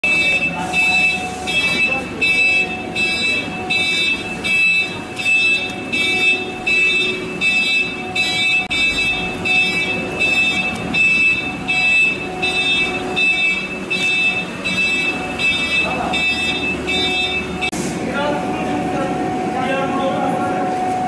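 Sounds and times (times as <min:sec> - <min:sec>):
electronic beeper: 0:00.0 - 0:17.8.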